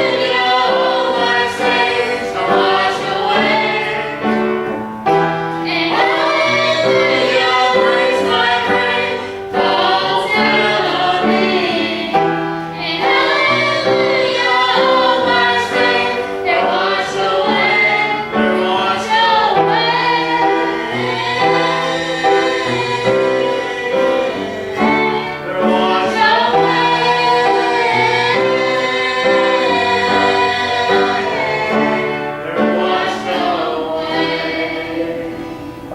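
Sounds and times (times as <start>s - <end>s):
group singing gospel in harmony: 0.0s - 35.9s
sustained instrumental chords: 0.0s - 35.9s.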